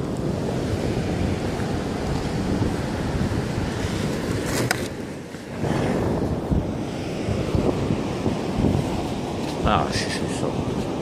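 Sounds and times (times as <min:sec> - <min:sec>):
surf washing on beach: 0:00.0 - 0:11.0
wind buffeting microphone: 0:00.0 - 0:11.0.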